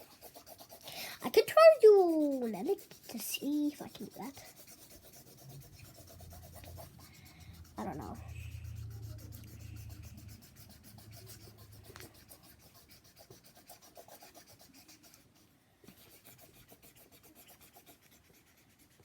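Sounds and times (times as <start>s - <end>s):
drawing tool scratching on paper: 0.0s - 19.0s.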